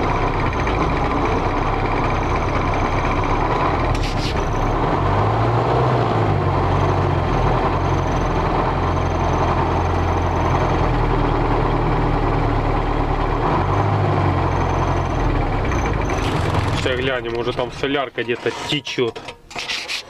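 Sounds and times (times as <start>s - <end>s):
diesel engine idling unsteadily: 0.0s - 18.3s.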